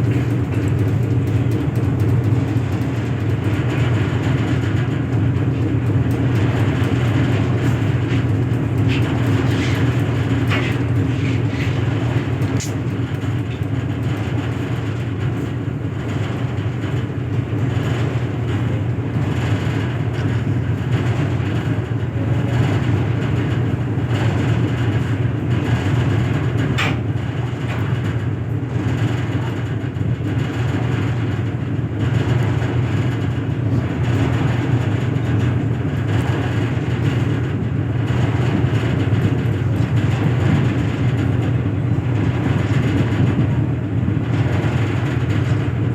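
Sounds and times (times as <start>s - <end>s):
low engine drone: 0.0s - 45.9s.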